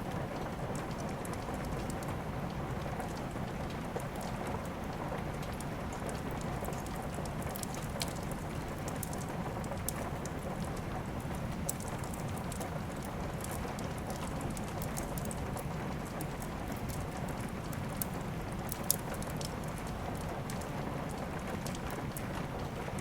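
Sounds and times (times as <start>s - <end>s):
steady rain falling: 0.0s - 23.0s
wood fire crackling: 2.7s - 23.0s.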